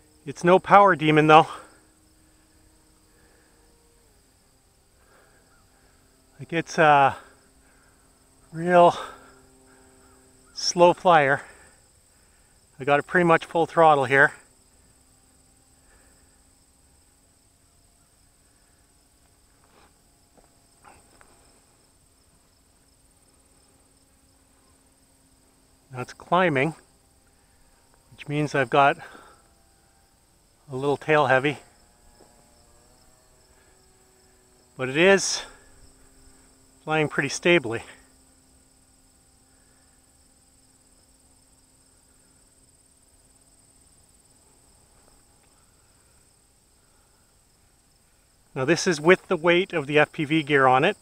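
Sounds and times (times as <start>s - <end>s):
faint low hum: 0.0s - 51.0s
insect trilling: 0.0s - 51.0s.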